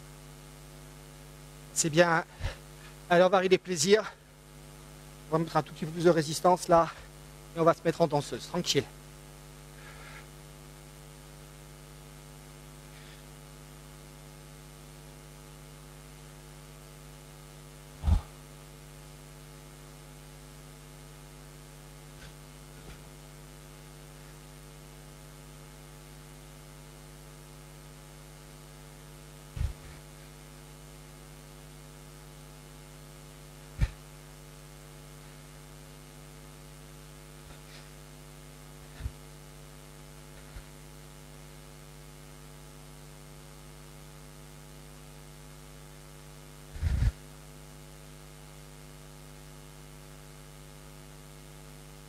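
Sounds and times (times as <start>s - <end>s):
electrical mains hum: 0.0s - 52.0s.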